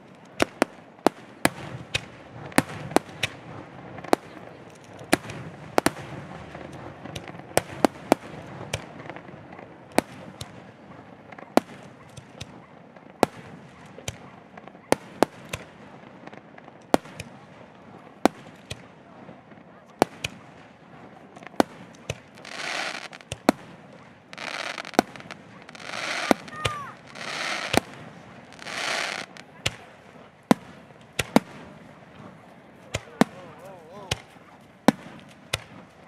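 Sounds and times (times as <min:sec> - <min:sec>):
fireworks bursting with bangs: 0:00.0 - 0:36.0
fireworks crackle and hiss: 0:00.0 - 0:36.0.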